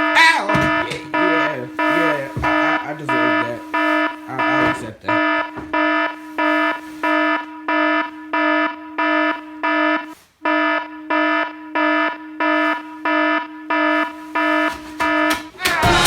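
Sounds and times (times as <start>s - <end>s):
electronic alarm beeping: 0.0s - 16.0s.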